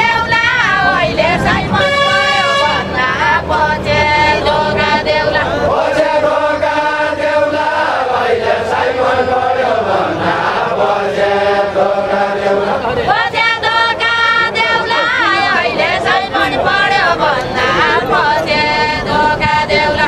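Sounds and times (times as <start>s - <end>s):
group of voices singing: 0.0s - 20.0s.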